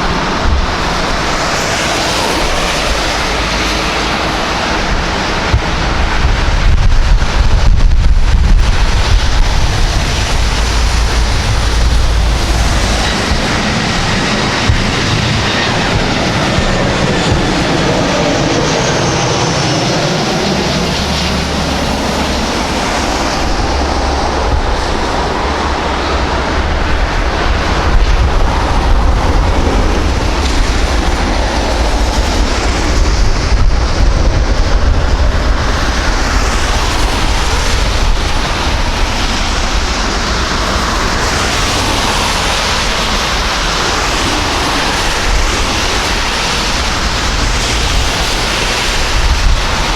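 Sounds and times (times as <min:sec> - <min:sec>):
jet engines roaring: 0:00.0 - 0:49.9.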